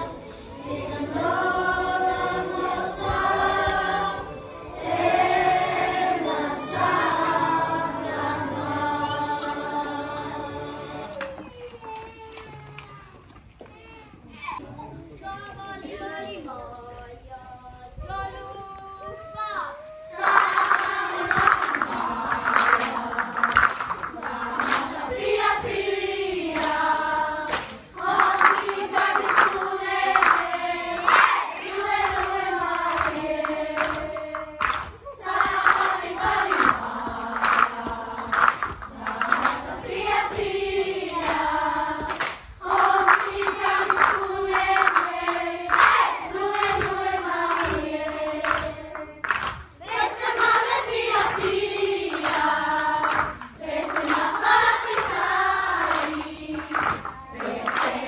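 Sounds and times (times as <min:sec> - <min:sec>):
children singing together: 0:00.0 - 0:12.0, 0:18.0 - 0:58.0.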